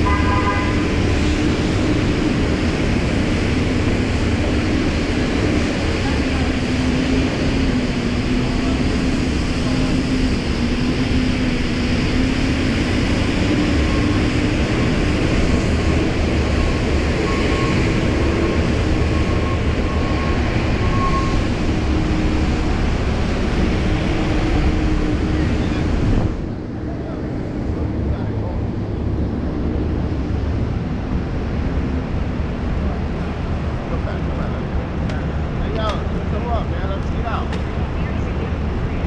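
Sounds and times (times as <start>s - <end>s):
car road and engine noise: 0.0s - 39.0s.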